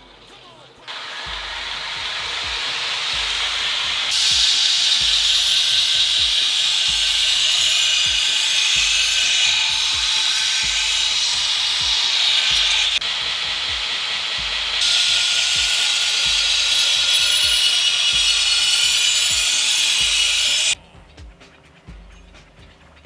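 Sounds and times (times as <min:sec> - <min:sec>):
grinder sharpening blade: 0:00.9 - 0:20.8.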